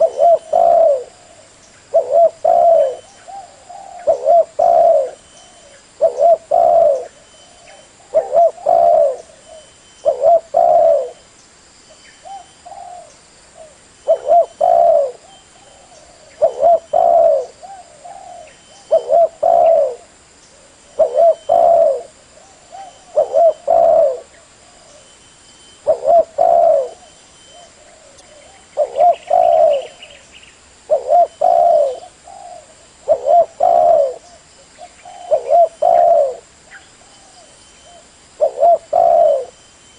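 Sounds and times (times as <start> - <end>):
dove cooing: 0.0 - 11.2, 12.2 - 25.2, 25.8 - 30.2, 30.9 - 39.6.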